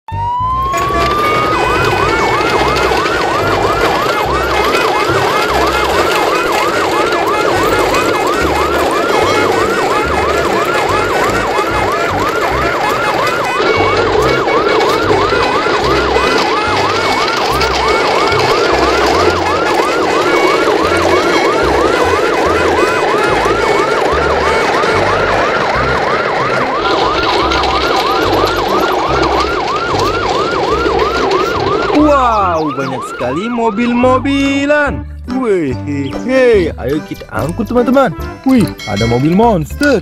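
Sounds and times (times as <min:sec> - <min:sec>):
electronic yelp siren: 0:00.1 - 0:35.0, 0:36.3 - 0:39.9.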